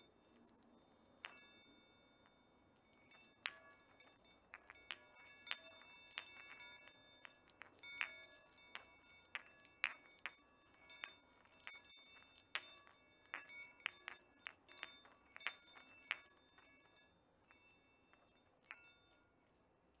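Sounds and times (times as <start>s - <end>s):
metal balls ringing: 0.0s - 19.5s.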